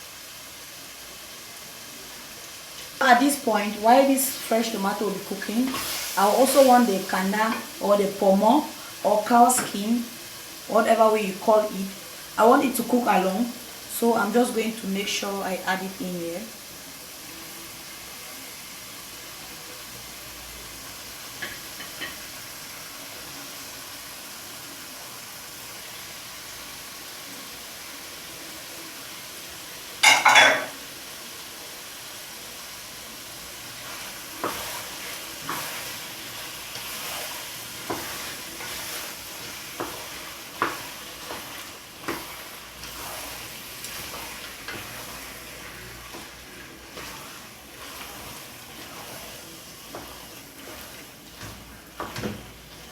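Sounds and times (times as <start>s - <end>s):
sauce sizzling in pot: 0.0s - 52.9s.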